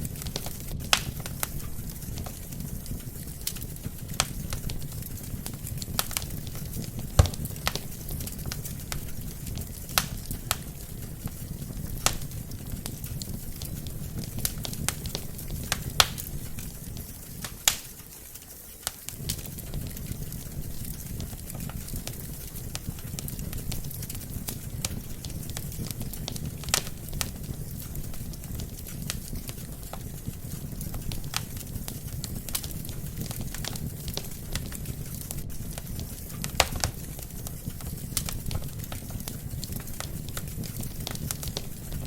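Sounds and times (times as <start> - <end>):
logs crackling and popping: 0.0 - 42.0
low rumble of flames: 0.0 - 42.0.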